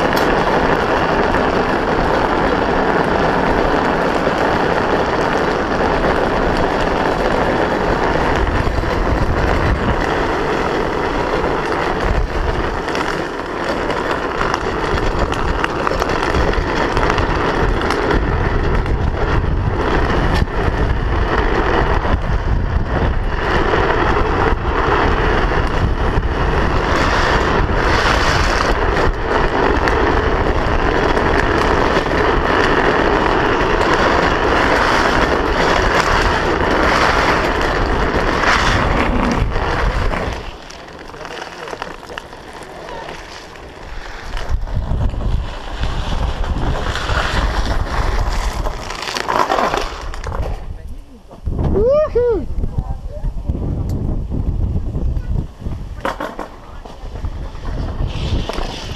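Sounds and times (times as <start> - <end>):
plastic wheels rolling on asphalt: 0.0 - 58.9
wind rushing over microphone: 0.0 - 58.9.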